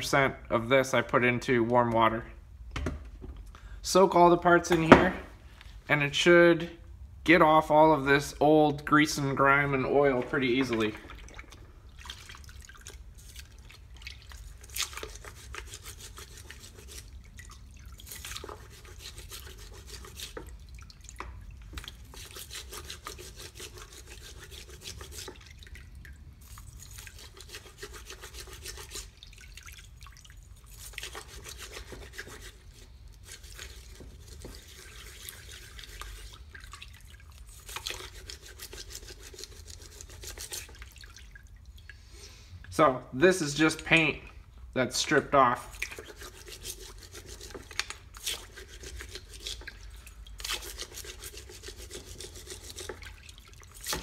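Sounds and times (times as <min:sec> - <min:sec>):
water sloshing in bucket: 0:08.8 - 0:42.9, 0:43.6 - 0:54.0.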